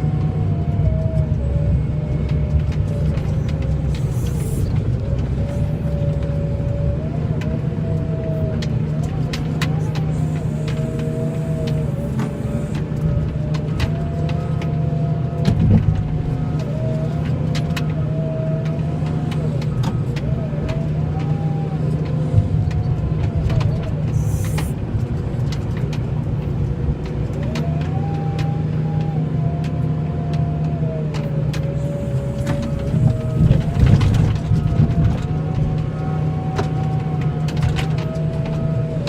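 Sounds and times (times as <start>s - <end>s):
whine rising and falling: 0.0s - 25.2s, 30.8s - 39.0s
tractor engine running: 0.0s - 39.0s.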